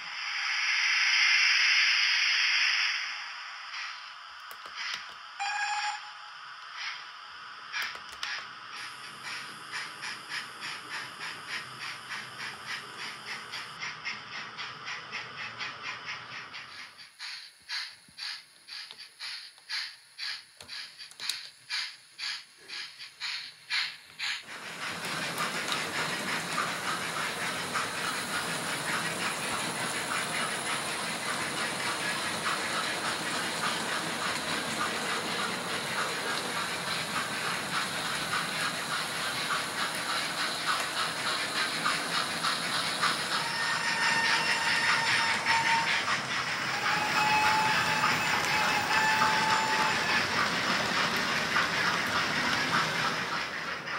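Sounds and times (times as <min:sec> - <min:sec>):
model steam locomotive chuffing: 0:03.5 - 0:53.9
model trains rattling on track: 0:06.7 - 0:53.9.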